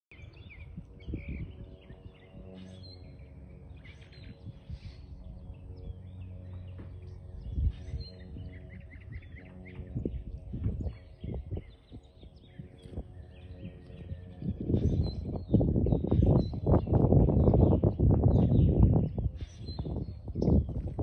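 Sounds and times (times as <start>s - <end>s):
small birds chirping: 0.1s - 21.0s
steady low hum: 0.1s - 21.0s.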